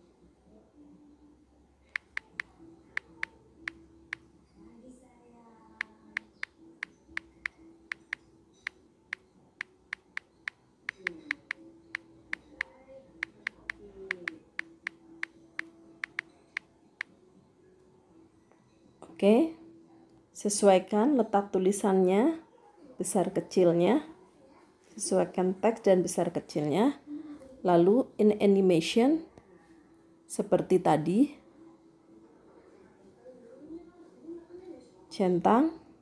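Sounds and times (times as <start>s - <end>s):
faint background music: 0.0s - 36.0s.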